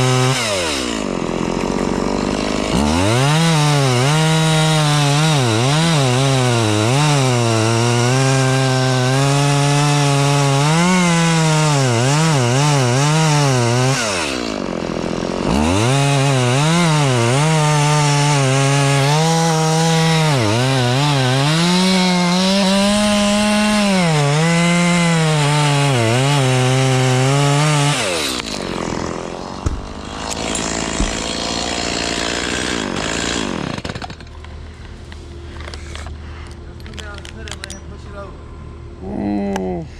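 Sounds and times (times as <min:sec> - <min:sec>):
chainsaw cutting wood: 0:00.0 - 0:37.7.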